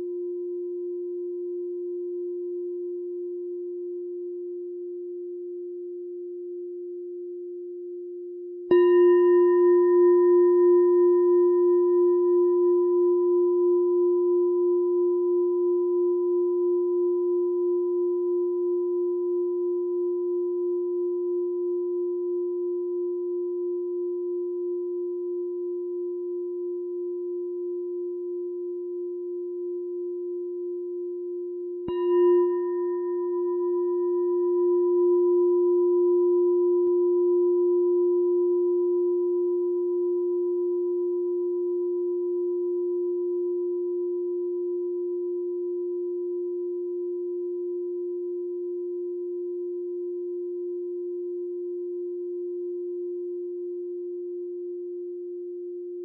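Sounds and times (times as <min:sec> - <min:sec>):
meditation bell ringing: 0:08.7 - 0:53.5.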